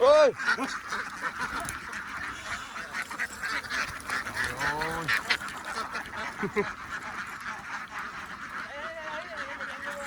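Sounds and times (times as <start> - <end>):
ducks quacking: 0.0 - 10.0
drawn-out duck call: 0.2 - 10.0.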